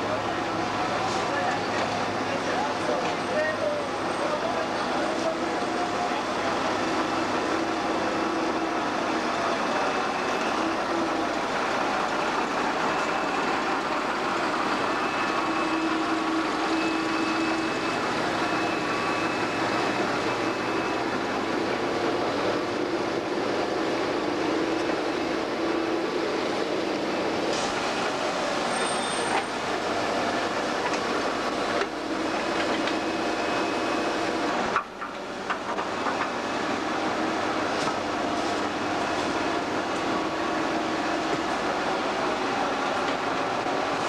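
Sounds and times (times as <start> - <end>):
carriages rolling on rails: 0.0 - 44.0
diesel locomotive running: 0.0 - 44.0.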